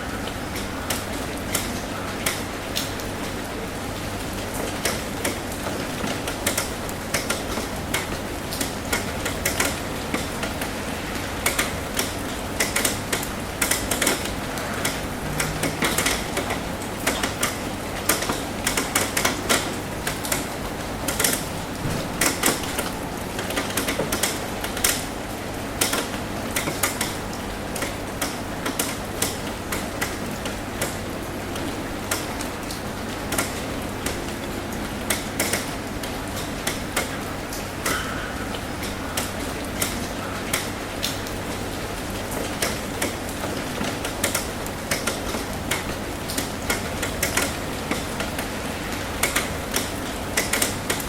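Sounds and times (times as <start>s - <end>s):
rain on a metal roof: 0.0s - 51.0s.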